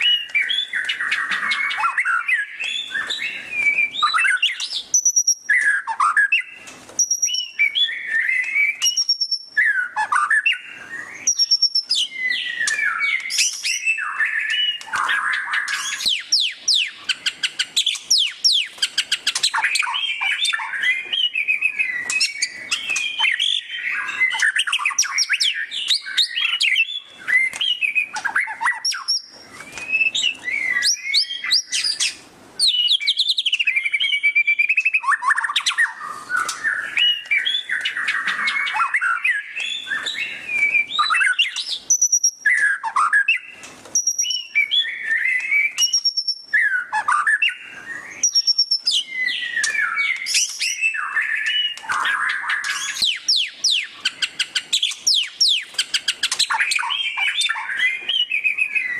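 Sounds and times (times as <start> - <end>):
songbird singing chirps and trills: 0.0 - 58.9.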